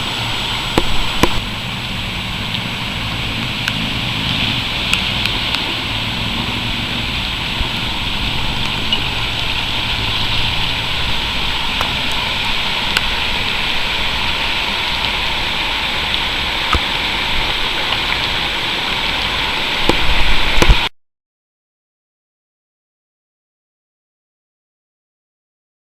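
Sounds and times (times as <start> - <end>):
raindrops ticking: 0.0 - 20.9
steady rain hissing: 0.0 - 20.9.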